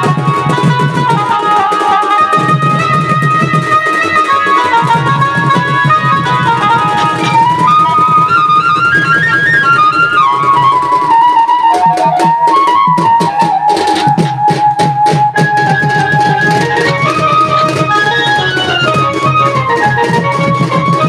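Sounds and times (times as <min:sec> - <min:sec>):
drums: 0:00.0 - 0:21.0
reedy wind instrument melody: 0:00.0 - 0:21.0.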